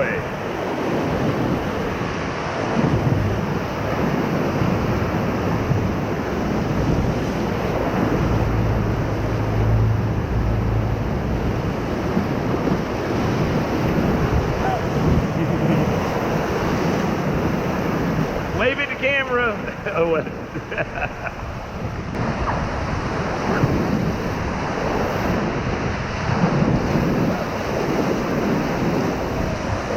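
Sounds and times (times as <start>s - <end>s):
whitewater rushing: 0.0s - 29.9s
wind noise on microphone: 0.0s - 29.9s.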